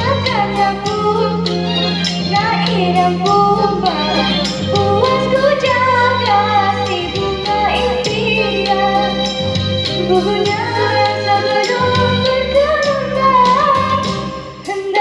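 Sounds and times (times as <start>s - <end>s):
young woman singing: 0.0s - 9.4s, 10.0s - 15.0s
instrumental accompaniment with beat: 0.0s - 15.0s.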